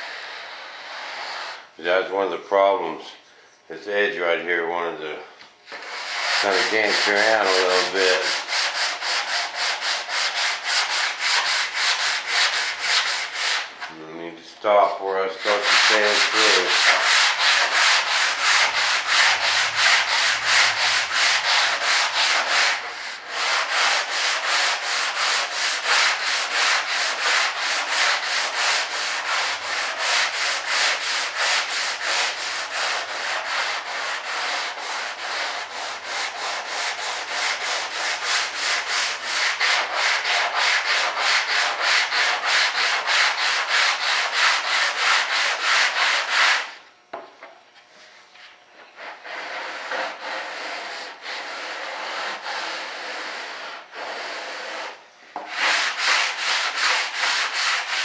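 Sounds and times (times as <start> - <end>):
hand sanding rasp: 0.0 - 1.6, 5.7 - 13.9, 14.8 - 46.8, 48.8 - 58.0.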